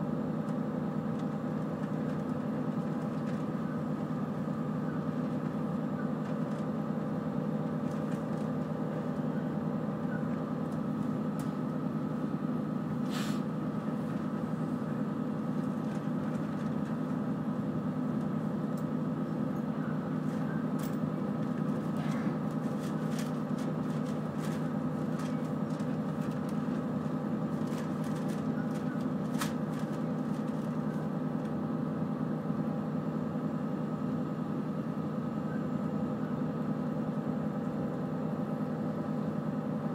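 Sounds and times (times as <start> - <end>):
constant hum: 0.0 - 39.9
train running rumble: 0.0 - 39.9.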